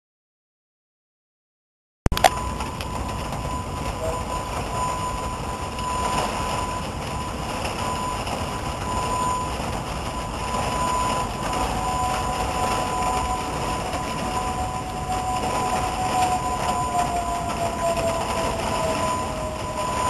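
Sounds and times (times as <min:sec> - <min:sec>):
tornado sirens: 0:02.1 - 0:20.0
steady rushing noise: 0:02.2 - 0:20.0.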